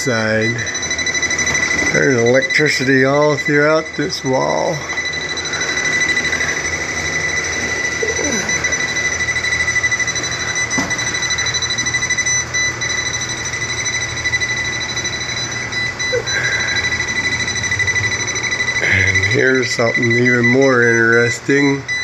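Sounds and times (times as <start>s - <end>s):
voltage tester beeping rapidly: 0.1s - 22.0s.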